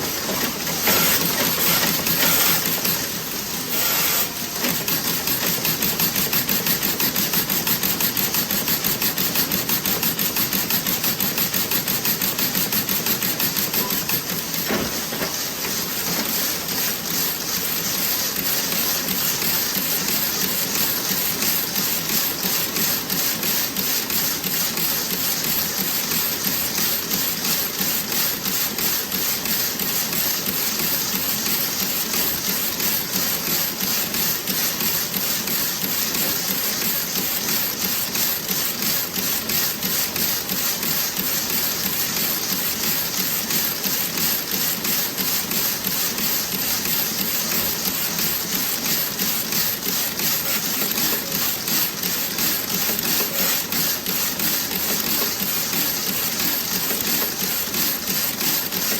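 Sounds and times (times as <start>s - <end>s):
knitting machine clatter: 0.0s - 58.9s.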